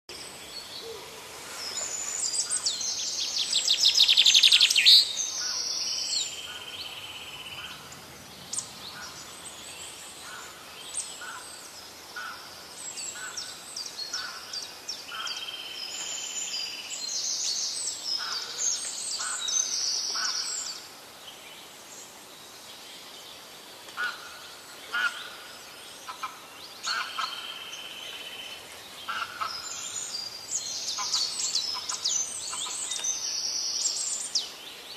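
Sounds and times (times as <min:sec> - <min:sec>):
birds chirping and trilling: 0:00.1 - 0:34.9.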